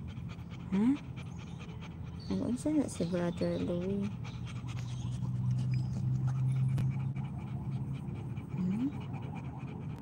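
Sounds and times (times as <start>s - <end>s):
dog panting: 0.0s - 10.0s.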